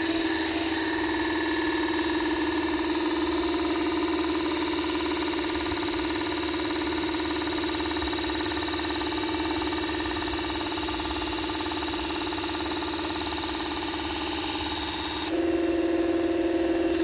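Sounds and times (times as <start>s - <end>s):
electric grinder whining: 0.0s - 17.0s.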